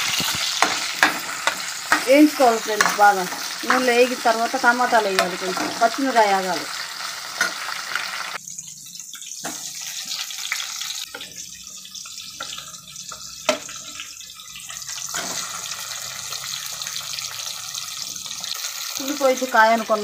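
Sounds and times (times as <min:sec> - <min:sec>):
chillies sizzling in hot oil: 0:00.0 - 0:20.0.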